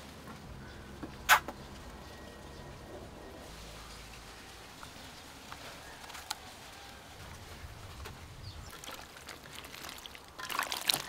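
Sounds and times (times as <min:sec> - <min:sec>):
faint outdoor ambience: 0:00.0 - 0:11.0.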